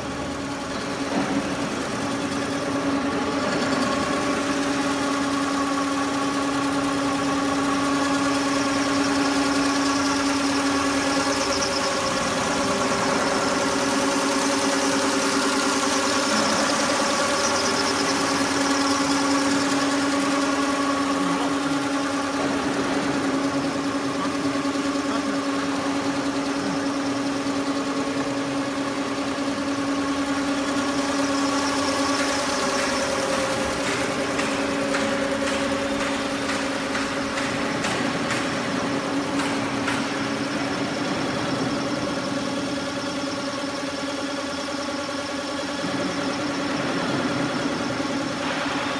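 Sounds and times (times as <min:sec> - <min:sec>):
quilting machine humming and chattering: 0:00.0 - 0:48.9.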